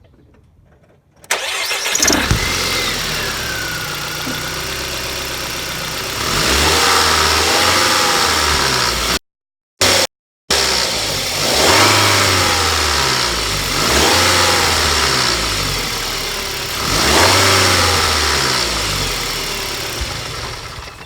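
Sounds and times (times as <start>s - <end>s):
car engine revving: 1.3s - 9.2s, 9.8s - 21.0s.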